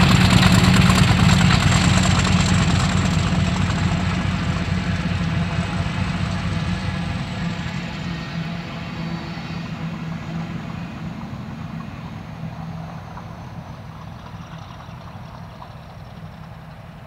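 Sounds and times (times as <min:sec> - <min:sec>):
diesel locomotive engine throbbing: 0:00.0 - 0:17.0.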